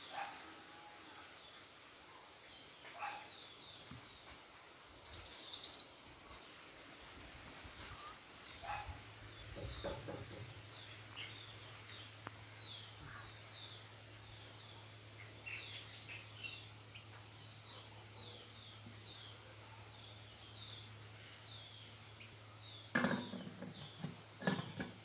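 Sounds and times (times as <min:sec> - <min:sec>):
birds chirping: 0:00.0 - 0:00.5, 0:01.4 - 0:25.0.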